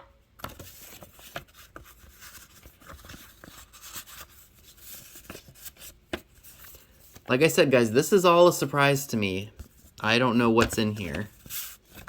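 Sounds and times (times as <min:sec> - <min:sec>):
paper cards rustling: 0:00.4 - 0:12.0.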